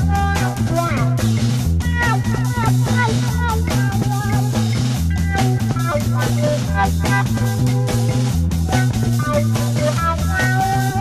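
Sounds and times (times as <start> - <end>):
drums: 0.0 - 11.0
lead guitar bending notes: 0.0 - 11.0
repeating bass line: 0.0 - 11.0.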